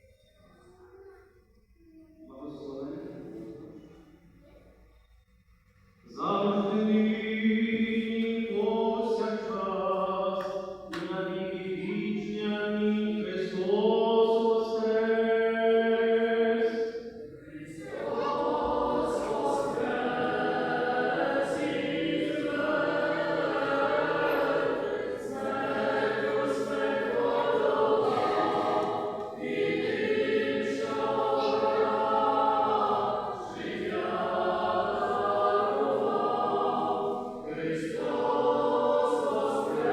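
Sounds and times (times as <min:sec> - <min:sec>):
church choir chanting: 0:06.1 - 0:39.9.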